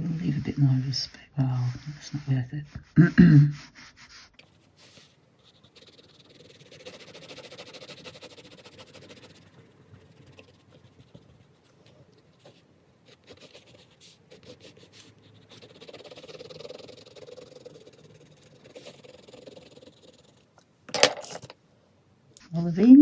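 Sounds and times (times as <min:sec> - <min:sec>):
pencil scratching on paper: 0:00.0 - 0:20.5.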